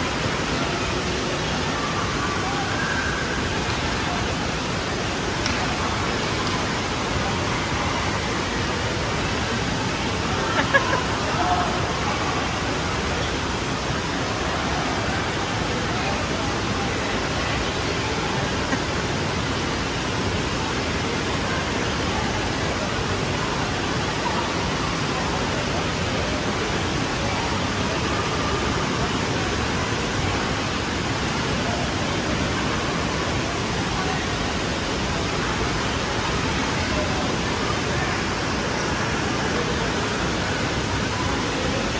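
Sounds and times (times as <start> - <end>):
faint voices: 0.0 - 41.9
running and lapping water: 0.0 - 41.9.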